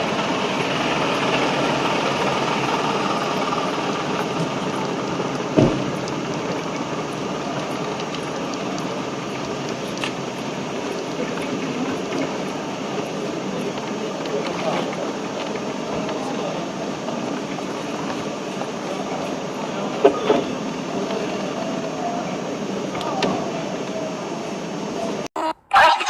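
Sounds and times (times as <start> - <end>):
vehicle engines running: 0.0 - 25.3.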